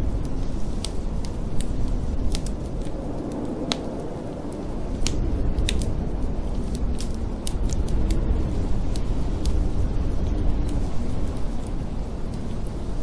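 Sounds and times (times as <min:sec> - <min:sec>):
low rumble of snowstorm wind: 0:00.0 - 0:13.0
wood fire crackling and popping: 0:00.0 - 0:13.0.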